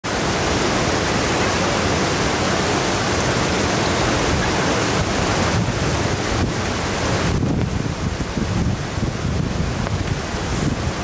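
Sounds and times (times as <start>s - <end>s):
loud rushing water: 0.0s - 11.0s.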